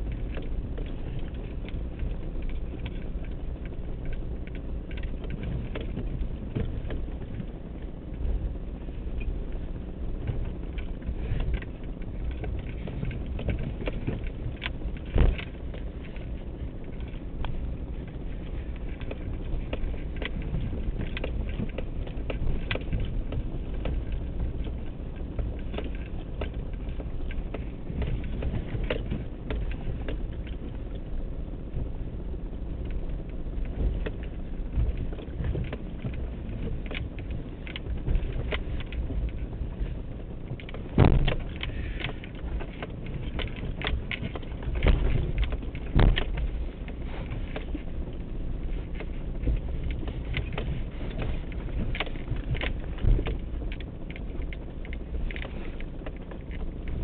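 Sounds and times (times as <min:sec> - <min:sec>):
engine and tyres rumbling: 0:00.0 - 0:57.0.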